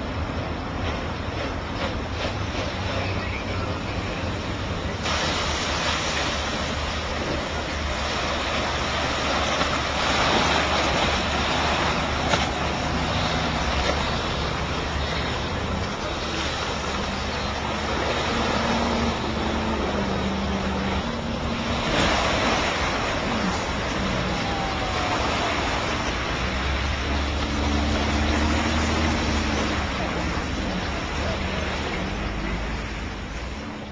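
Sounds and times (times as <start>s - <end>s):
low engine noise: 0.0s - 33.9s
water splashing: 0.0s - 33.9s.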